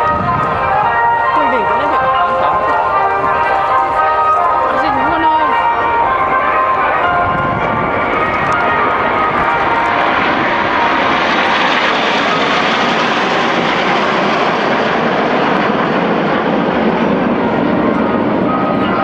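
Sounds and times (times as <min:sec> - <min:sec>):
jets roaring past: 0:00.0 - 0:19.0.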